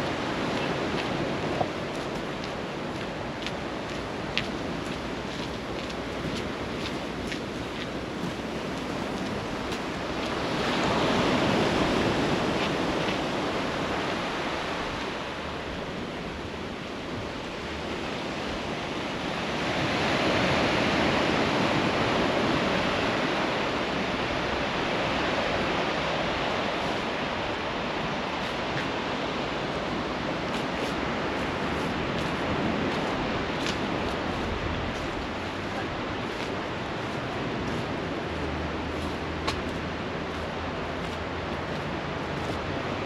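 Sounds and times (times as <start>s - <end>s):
sea waves breaking: 0.0s - 43.0s.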